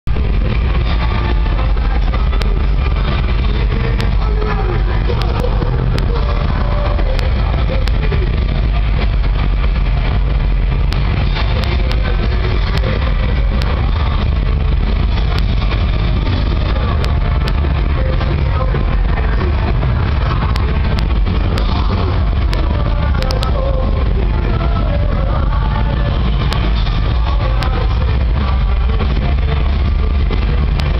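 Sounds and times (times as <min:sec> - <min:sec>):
bass-heavy live band music: 0:00.0 - 0:30.9.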